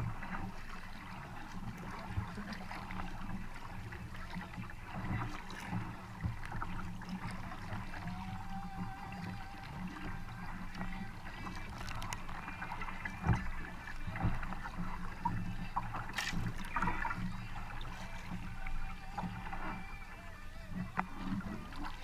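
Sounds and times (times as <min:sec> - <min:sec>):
paddle splashing through water: 0:00.0 - 0:22.0
water running along hull: 0:00.0 - 0:22.0.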